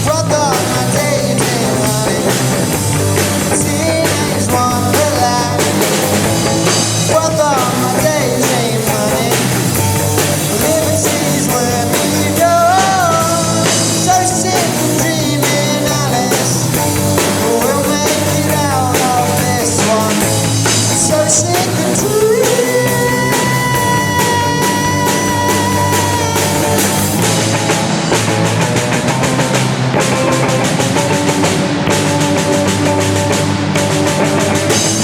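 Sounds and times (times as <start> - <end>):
bass guitar: 0.0 - 35.0
drum kit: 0.0 - 35.0
guitar: 0.0 - 35.0.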